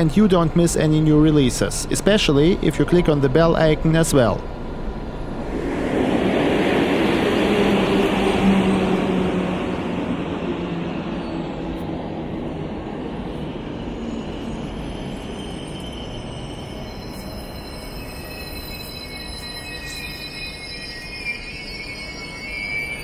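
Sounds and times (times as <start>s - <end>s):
electric locomotive low tone: 0.0s - 23.0s.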